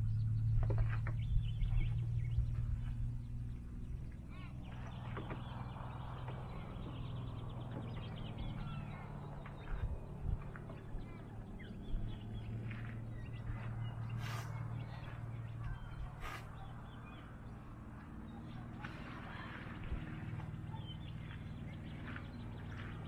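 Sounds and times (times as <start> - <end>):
birds chirping: 0.0 - 23.0
low hum: 0.0 - 23.0.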